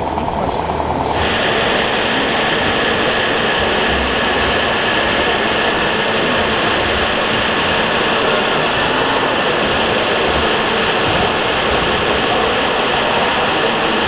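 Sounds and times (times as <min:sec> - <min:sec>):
small motors and gears whining: 0:00.8 - 0:14.0.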